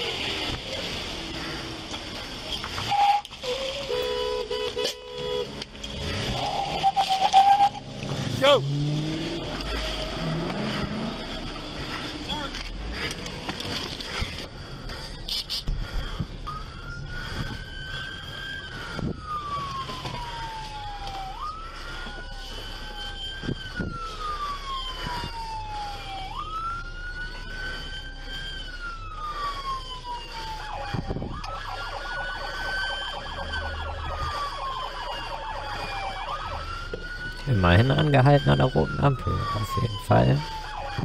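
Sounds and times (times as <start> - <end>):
police siren wailing: 0.0 - 41.0
vehicle rumble: 0.0 - 41.0
fast pulsing siren tone: 5.9 - 41.0.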